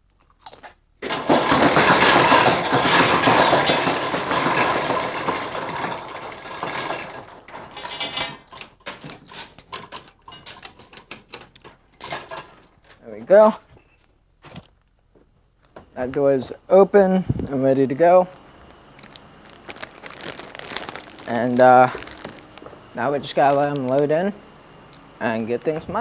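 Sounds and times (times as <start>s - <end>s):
loading door mechanical rattle: 1.0s - 13.8s, 15.9s - 26.0s.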